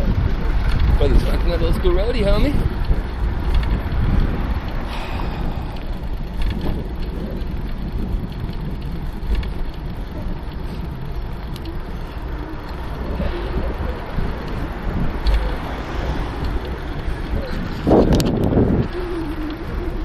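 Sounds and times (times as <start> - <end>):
bicycle rattles: 0.0 - 20.0
wind rumbling on microphone: 0.0 - 20.0.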